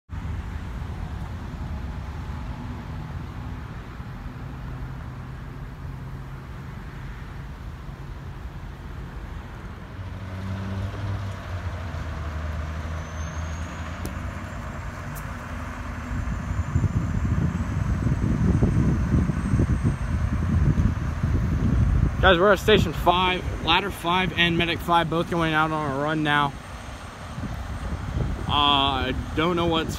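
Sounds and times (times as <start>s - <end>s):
fire engines idling: 0.3s - 10.1s, 11.4s - 29.9s.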